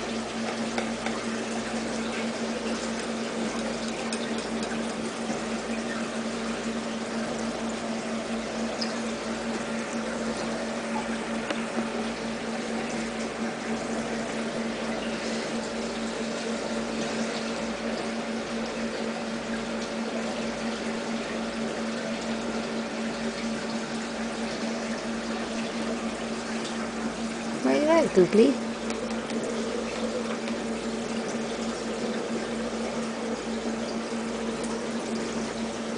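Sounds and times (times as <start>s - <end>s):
water pump humming: 0.0s - 35.9s.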